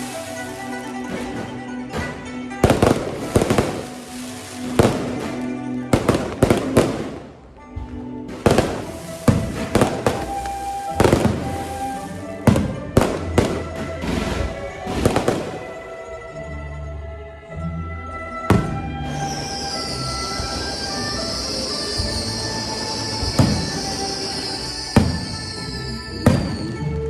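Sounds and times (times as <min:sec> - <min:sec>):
fireworks bursting: 0:00.0 - 0:16.3, 0:18.1 - 0:27.0
music with sustained notes: 0:00.0 - 0:27.0.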